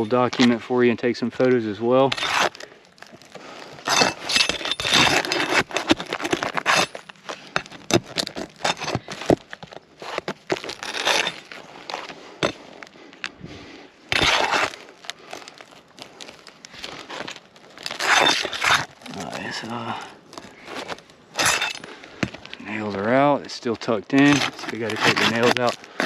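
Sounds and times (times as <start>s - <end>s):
shingles crackling: 0.0s - 26.0s
nails scraping and clinking: 2.1s - 13.3s, 14.1s - 15.6s, 16.3s - 23.1s, 24.1s - 26.0s.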